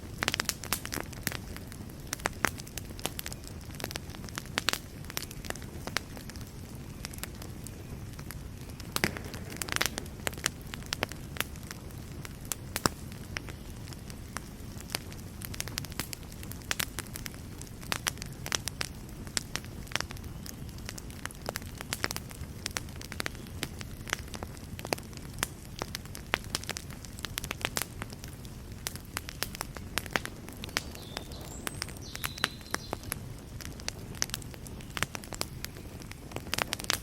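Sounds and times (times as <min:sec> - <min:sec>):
pops and snaps of burning logs: 0:00.0 - 0:37.0
wood fire crackling: 0:00.0 - 0:37.0.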